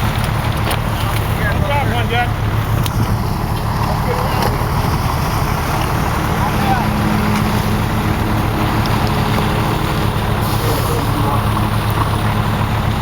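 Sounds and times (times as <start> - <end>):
fire engine engine running: 0.0 - 13.0.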